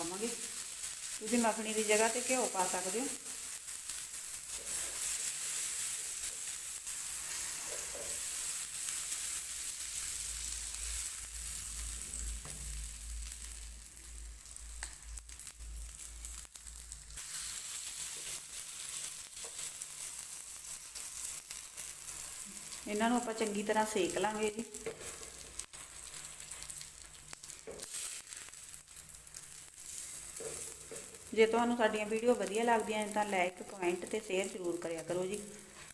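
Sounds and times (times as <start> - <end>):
butter sizzling on a hot griddle: 0.0 - 35.9.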